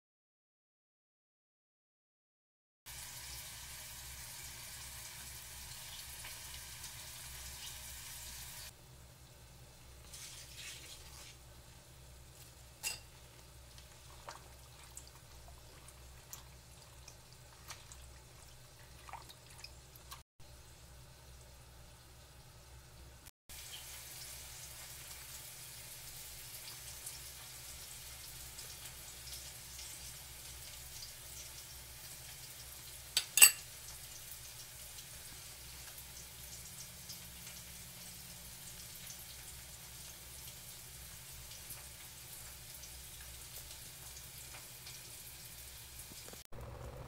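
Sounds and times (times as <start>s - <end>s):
food sizzling in a pan: 2.9s - 19.9s, 23.5s - 46.9s.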